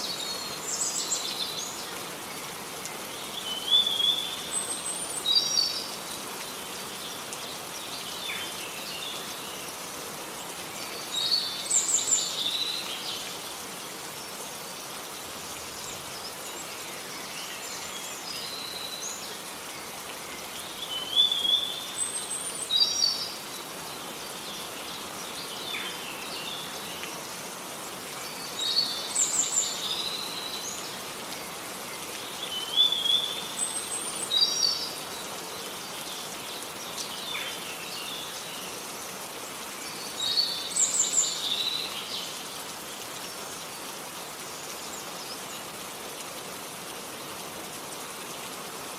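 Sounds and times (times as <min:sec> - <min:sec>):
rain falling: 0:00.0 - 0:48.9
songbird chirping: 0:00.0 - 0:48.9.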